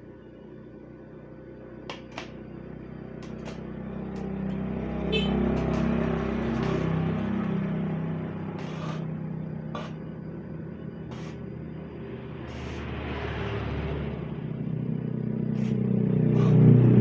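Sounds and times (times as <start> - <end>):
two-stroke motorcycle engine running: 0.7 - 17.0.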